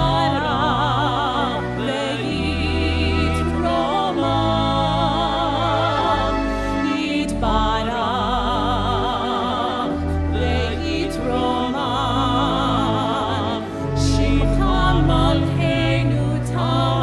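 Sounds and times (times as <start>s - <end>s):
sustained low accompaniment: 0.0s - 17.0s.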